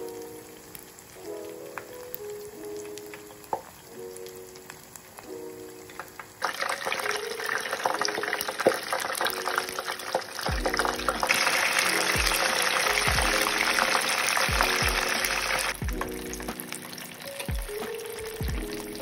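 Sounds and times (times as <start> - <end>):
spring rolls deep-frying in oil: 0.0 - 19.0.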